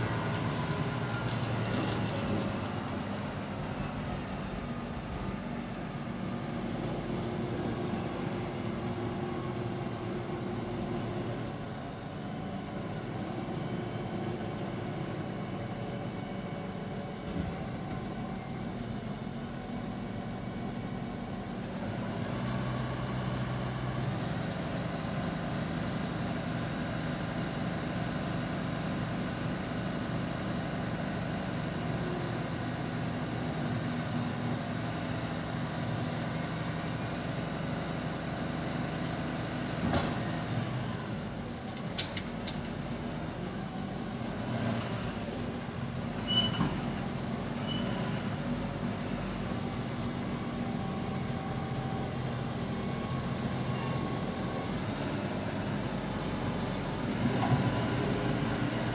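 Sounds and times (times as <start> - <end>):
diesel engines running: 0.0 - 58.9.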